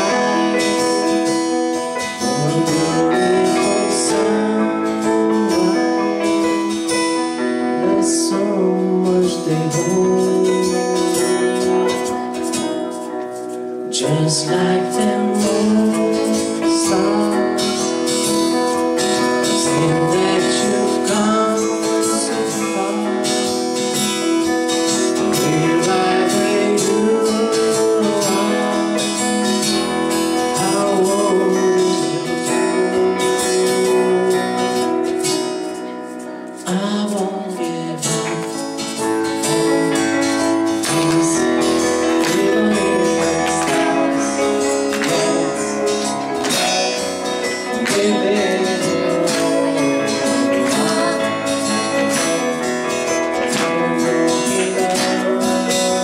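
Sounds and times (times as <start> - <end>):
acoustic guitar strumming: 0.0 - 56.0
keyboard accompaniment: 0.0 - 56.0
person singing: 0.0 - 56.0.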